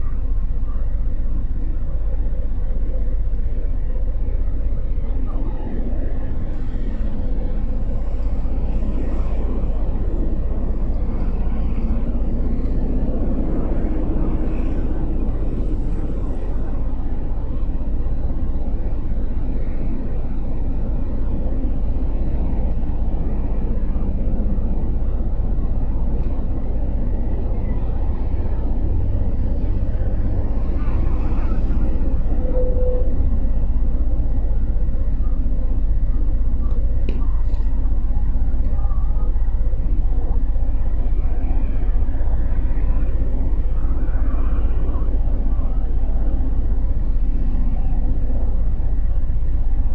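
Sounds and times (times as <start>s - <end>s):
motorcycle engine drone: 0.0s - 49.9s
wind rumble on microphone: 0.0s - 49.9s.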